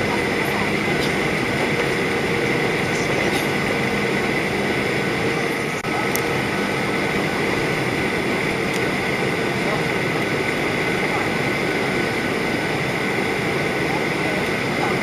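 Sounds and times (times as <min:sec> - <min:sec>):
airflow over fuselage: 0:00.0 - 0:15.0
jet engines droning: 0:00.0 - 0:15.0.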